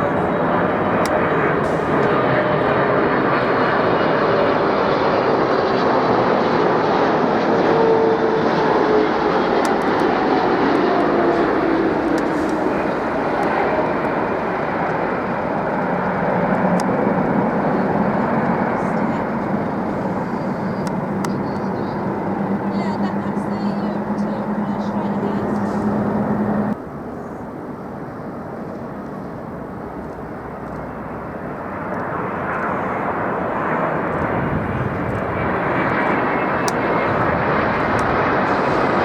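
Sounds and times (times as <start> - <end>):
jet engines passing: 0.0 - 39.0.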